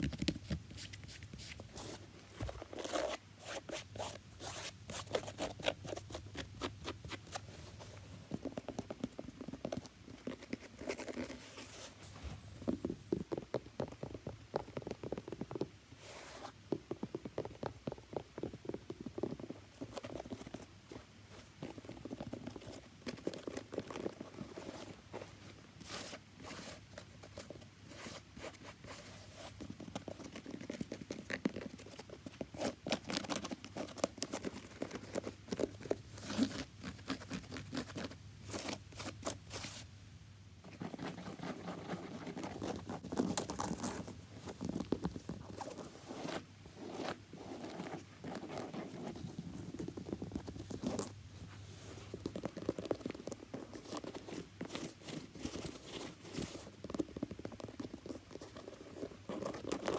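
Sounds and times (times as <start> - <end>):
tapping and scratching on shoe: 0.0 - 7.4, 8.3 - 11.4, 12.2 - 15.8, 16.4 - 25.0, 25.8 - 39.8, 40.7 - 51.2, 51.9 - 59.9.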